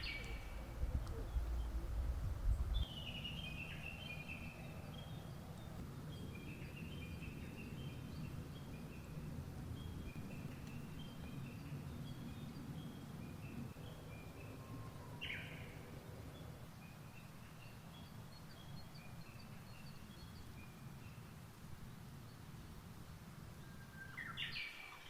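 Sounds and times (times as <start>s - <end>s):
low outdoor background rumble: 0.0s - 24.4s
small songbirds chirping: 0.0s - 25.0s.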